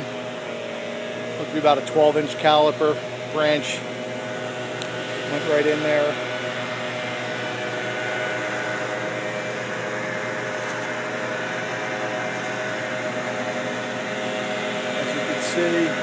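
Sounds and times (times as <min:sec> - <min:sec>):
mechanical drone with hiss: 0:00.0 - 0:16.0.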